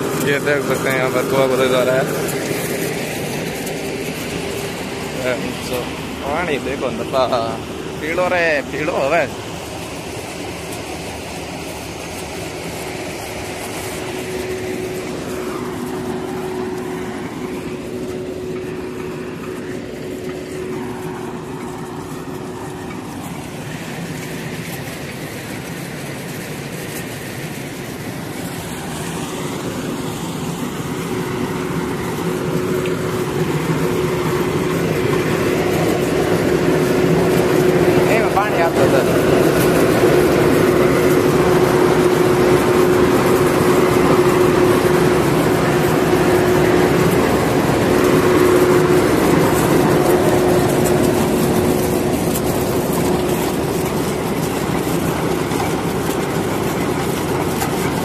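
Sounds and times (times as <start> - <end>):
drilling rig engine hum: 0.0 - 58.0.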